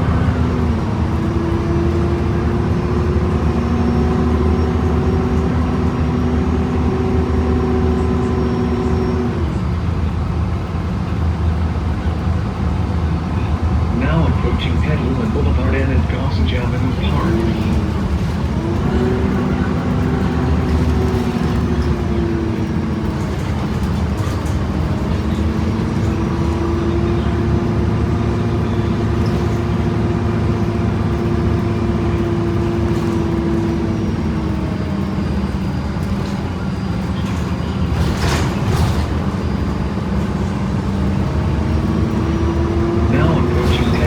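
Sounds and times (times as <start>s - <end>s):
bus transmission whining: 0.0s - 44.0s
diesel engine drone: 0.0s - 44.0s.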